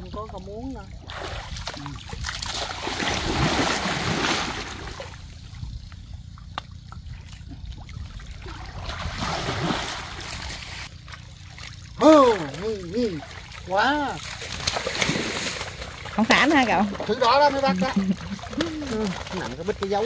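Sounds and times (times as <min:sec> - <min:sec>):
water lapping: 0:00.0 - 0:20.0
creek water splashing: 0:00.4 - 0:20.0.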